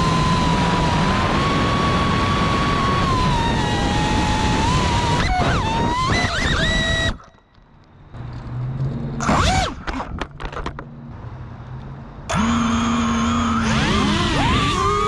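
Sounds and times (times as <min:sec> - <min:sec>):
drone motors whining: 0:00.0 - 0:10.9, 0:12.3 - 0:15.0.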